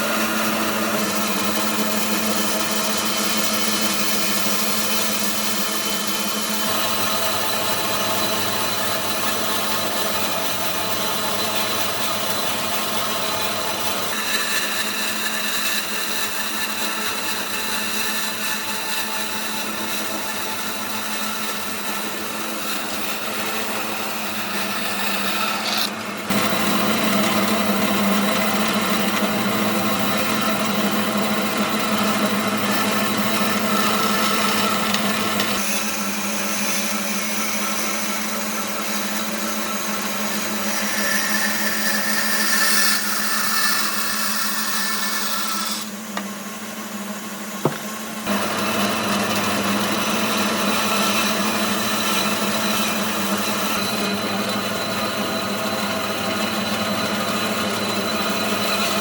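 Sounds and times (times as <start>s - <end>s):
power tool whining on wood: 0.0s - 59.0s.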